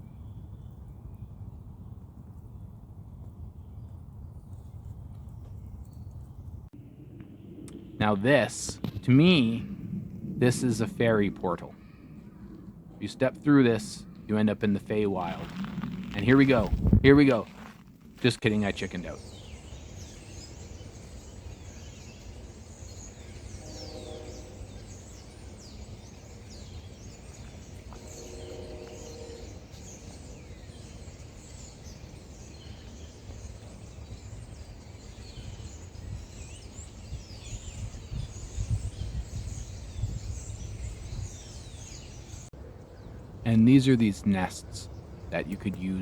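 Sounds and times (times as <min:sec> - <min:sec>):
low outdoor rumble: 0:00.0 - 0:37.1
wild birds chirping and calling: 0:07.7 - 0:17.7, 0:18.5 - 0:46.0.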